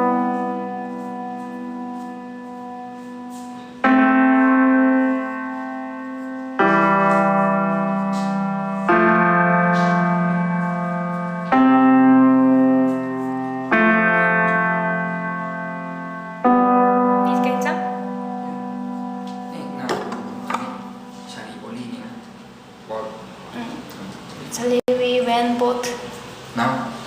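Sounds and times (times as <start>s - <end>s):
sustained keyboard chords: 0.0s - 27.0s.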